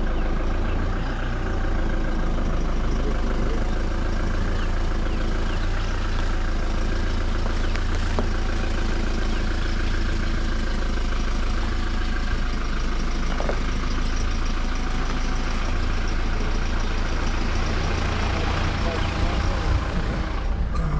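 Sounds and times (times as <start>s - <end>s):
vehicle engine rumbling: 0.0s - 20.9s.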